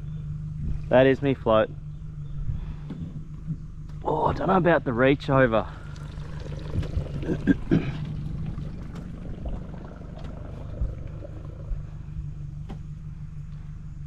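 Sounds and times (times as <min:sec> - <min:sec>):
boat motor running: 0:00.0 - 0:13.5.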